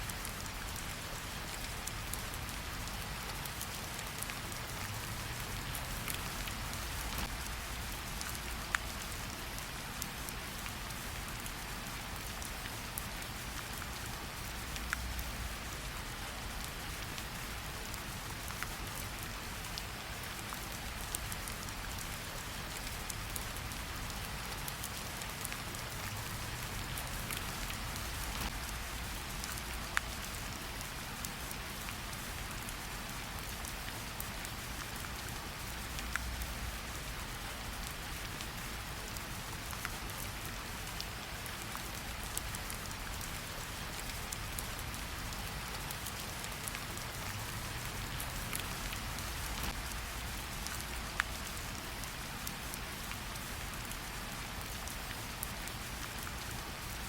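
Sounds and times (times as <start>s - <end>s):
light rain pattering on leaves: 0.0s - 57.0s.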